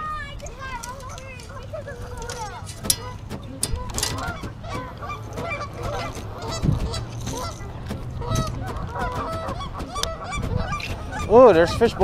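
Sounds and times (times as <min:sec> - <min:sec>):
geese honking: 0:01.0 - 0:12.0.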